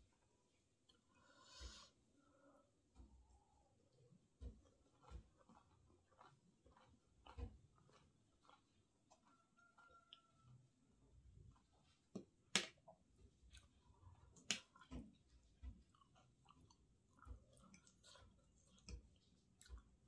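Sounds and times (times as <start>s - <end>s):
close-miked chewing: 3.0s - 12.2s, 13.2s - 20.0s.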